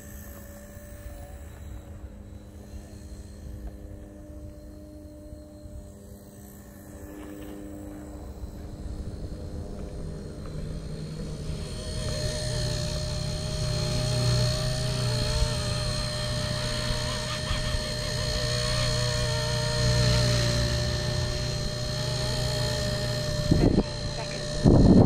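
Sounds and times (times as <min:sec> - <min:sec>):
rc helicopter buzzing: 0:00.0 - 0:25.0.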